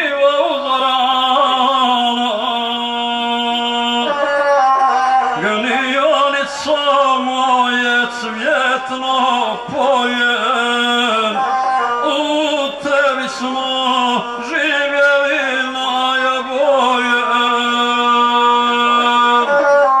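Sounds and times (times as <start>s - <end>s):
bowed single-string fiddle: 0.0s - 20.0s
man singing: 0.0s - 20.0s.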